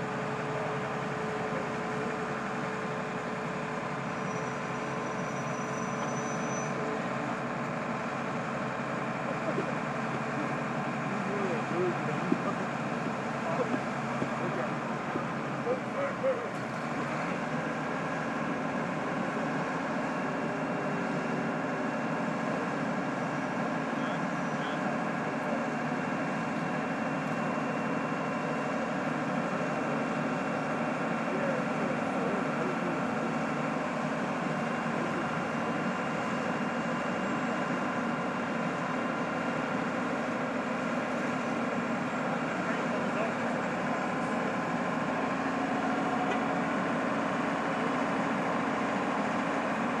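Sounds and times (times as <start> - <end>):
heavy machinery engine running: 0.0 - 50.0.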